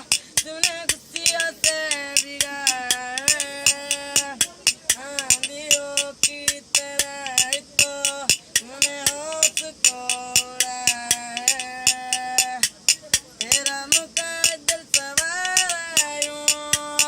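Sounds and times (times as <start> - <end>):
percussive clicks keeping a beat: 0.0 - 17.0
person singing: 0.0 - 17.0.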